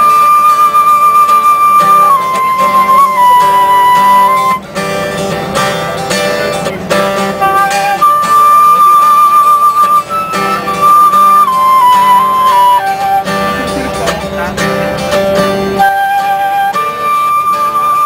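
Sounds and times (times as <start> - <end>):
acoustic guitar strumming chords: 0.0 - 18.0
flute melody: 0.0 - 18.0.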